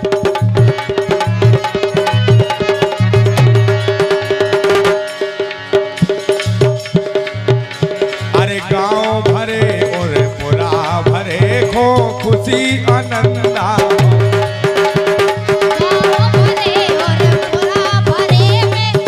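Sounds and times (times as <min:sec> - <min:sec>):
hand drum rhythm: 0:00.0 - 0:19.0
wavering melody with vibrato: 0:00.4 - 0:19.0.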